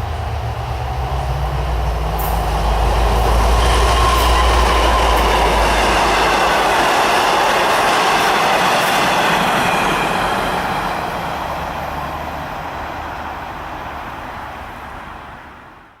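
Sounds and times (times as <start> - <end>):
diesel locomotive rumble: 0.0 - 15.8
train wheels on rail: 0.0 - 16.0.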